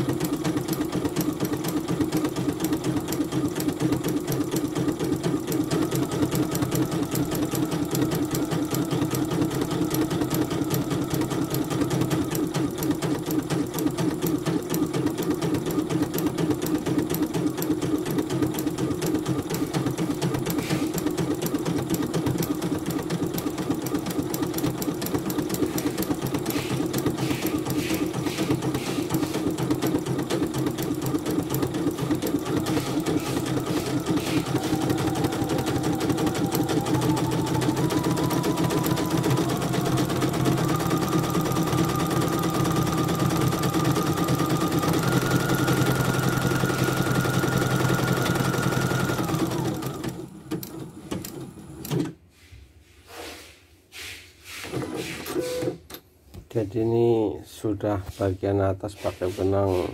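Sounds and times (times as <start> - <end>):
embroidery machine stitching: 0.0 - 52.2.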